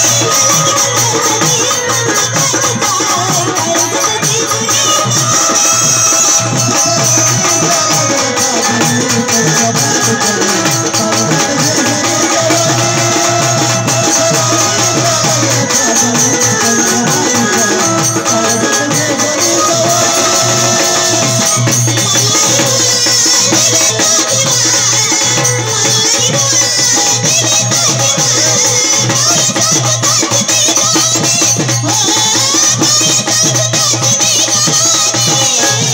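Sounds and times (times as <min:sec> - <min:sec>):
drum: 0:00.0 - 0:35.9
jingling rattling percussion: 0:00.0 - 0:35.9.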